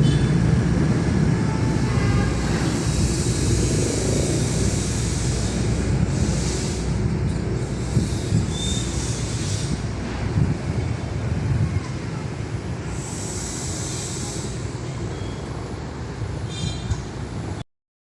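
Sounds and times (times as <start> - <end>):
train wheels rumbling on track: 0.0 - 17.6
rushing hiss: 0.6 - 10.7, 12.0 - 17.3.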